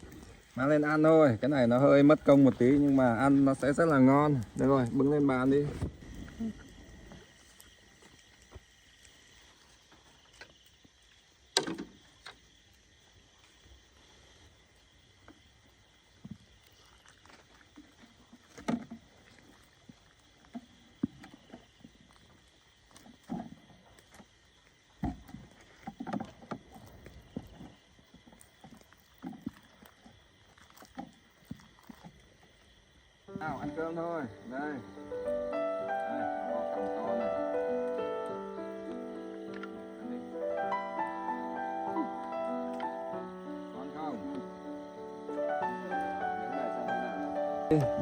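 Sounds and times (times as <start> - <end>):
insect chirring: 0.0 - 48.0.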